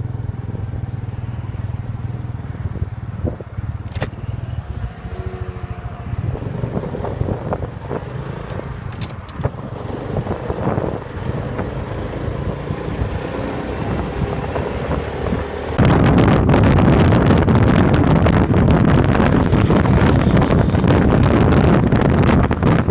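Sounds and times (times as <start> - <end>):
motorcycle engine rumble: 0.0 - 22.9
wind noise on microphone: 0.0 - 22.9.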